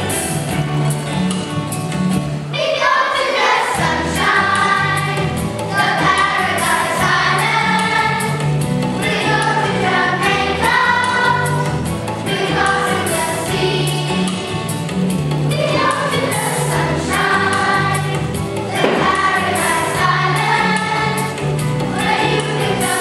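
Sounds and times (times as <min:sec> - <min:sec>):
group of voices singing: 0:02.5 - 0:08.4, 0:09.0 - 0:14.7, 0:15.5 - 0:23.0
backing track with bass line: 0:03.8 - 0:23.0.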